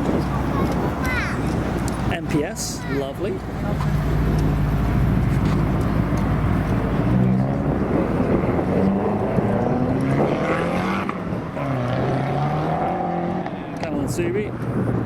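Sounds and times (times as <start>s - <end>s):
car engines accelerating: 0.0s - 15.0s.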